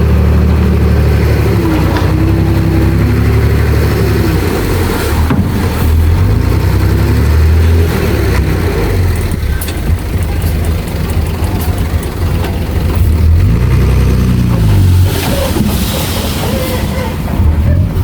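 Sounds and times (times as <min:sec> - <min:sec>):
heavy diesel engine under load: 0:00.0 - 0:18.0.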